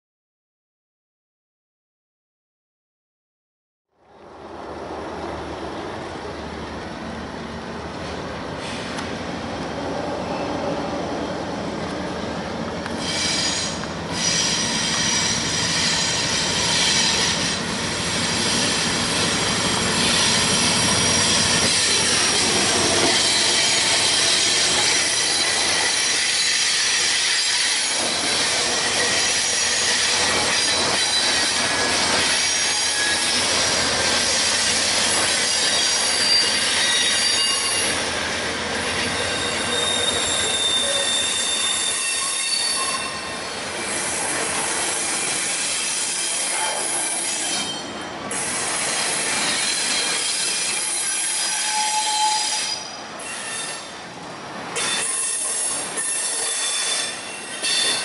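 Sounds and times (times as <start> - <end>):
diesel locomotives passing: 4.0 - 58.0
train wheels squealing on rails: 7.9 - 58.0.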